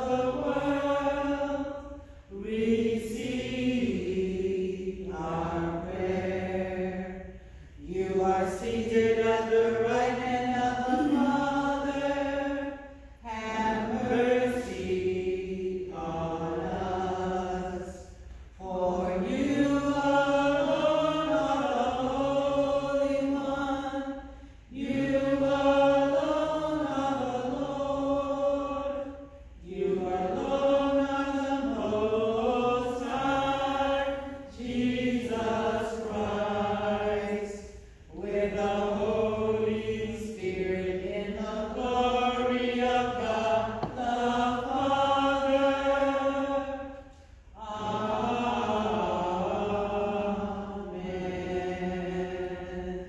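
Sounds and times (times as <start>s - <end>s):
voices singing a chant: 0.0s - 53.0s.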